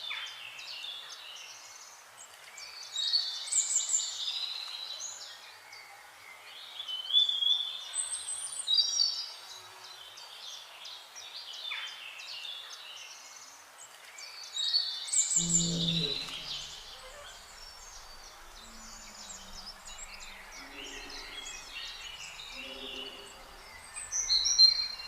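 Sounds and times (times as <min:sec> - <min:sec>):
faint steady hiss: 0:00.0 - 0:25.0
songbirds chirping: 0:00.0 - 0:25.0.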